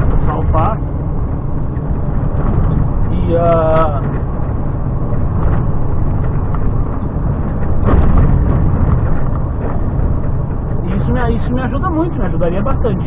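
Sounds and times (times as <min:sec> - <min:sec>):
truck diesel engine rumble: 0:00.0 - 0:13.0.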